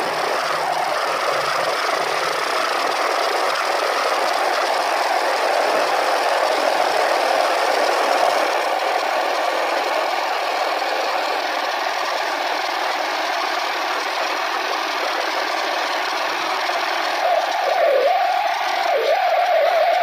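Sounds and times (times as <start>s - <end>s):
dense noisy drone: 0.0s - 20.0s.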